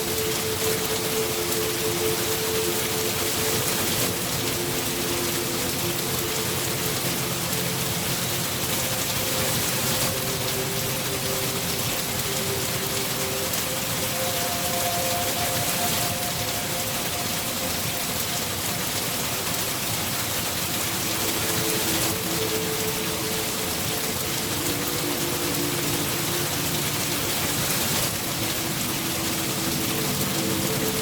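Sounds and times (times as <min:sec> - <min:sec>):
heavy rainfall: 0:00.0 - 0:31.0.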